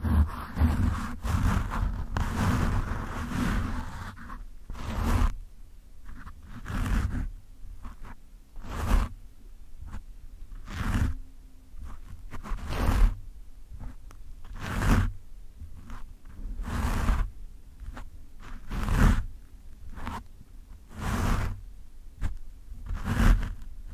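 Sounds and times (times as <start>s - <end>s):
fingernails scratching microphone windscreen: 0.0s - 5.4s, 6.0s - 9.2s, 9.8s - 11.2s, 11.8s - 13.2s, 13.8s - 19.3s, 19.9s - 20.3s, 20.9s - 21.6s, 22.2s - 23.9s.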